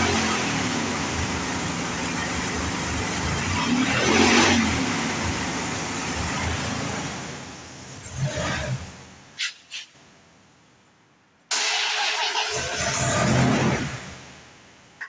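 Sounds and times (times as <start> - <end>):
pickup truck engine idling and revving: 0.0 - 9.4, 11.5 - 14.7.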